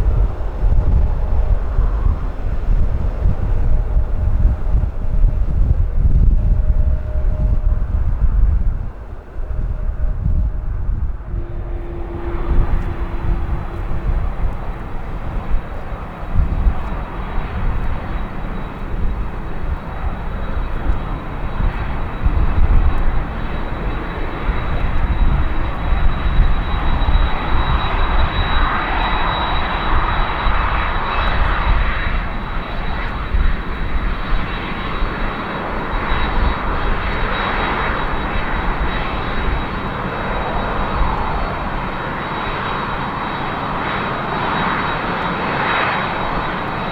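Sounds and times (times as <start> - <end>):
jet engines whining and roaring: 0.0 - 46.9
wind rumbling on microphone: 0.0 - 46.9.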